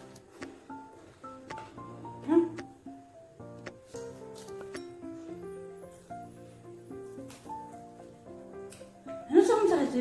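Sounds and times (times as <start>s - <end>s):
light background melody: 0.0s - 10.0s.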